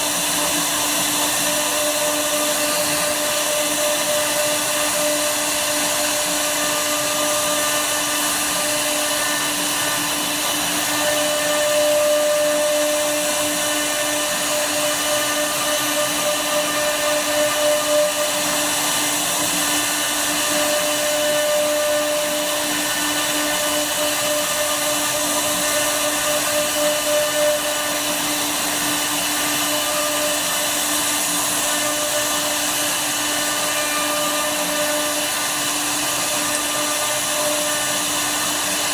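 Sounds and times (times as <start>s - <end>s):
router spindle cutting wood: 0.0s - 38.9s.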